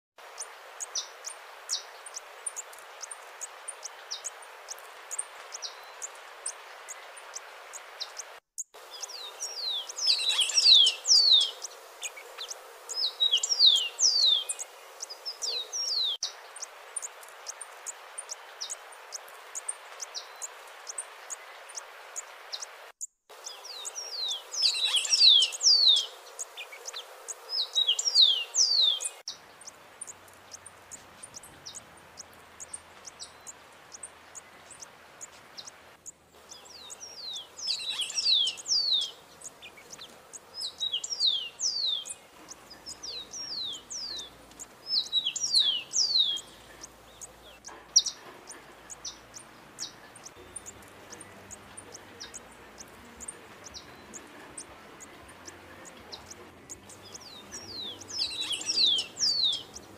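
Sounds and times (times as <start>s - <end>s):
hummingbird song: 0.2s - 22.7s, 23.3s - 59.9s
steady hiss: 0.2s - 59.9s
thin high ticks and chirps: 0.3s - 59.9s.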